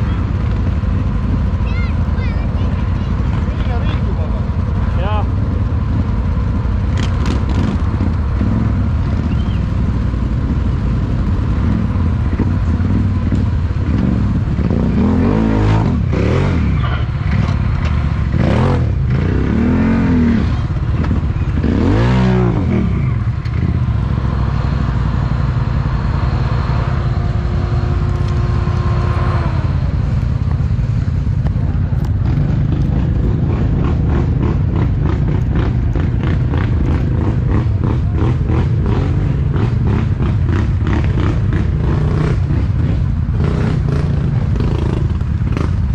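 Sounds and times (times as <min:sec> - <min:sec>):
quad bike engine revving: 0:00.0 - 0:45.9.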